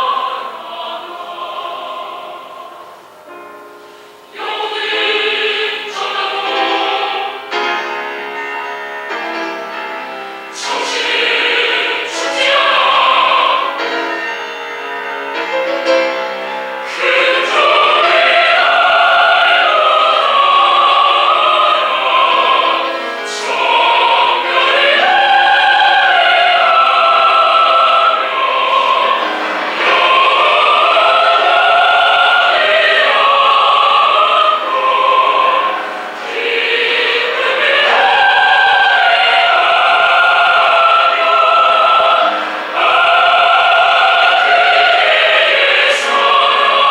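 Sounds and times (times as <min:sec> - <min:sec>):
choir singing: 0:00.0 - 0:46.9
piano accompaniment: 0:00.0 - 0:46.9.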